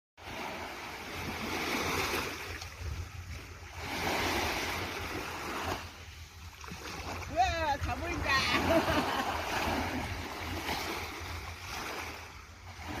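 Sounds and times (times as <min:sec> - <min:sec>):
small waves washing on beach: 0:00.2 - 0:13.0.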